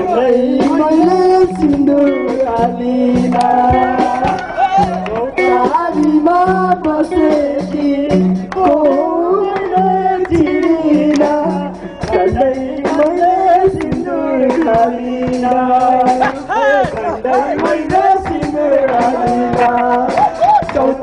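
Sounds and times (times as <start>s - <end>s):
amplified music with drum beat: 0.0s - 21.0s
man singing into a microphone: 0.0s - 21.0s.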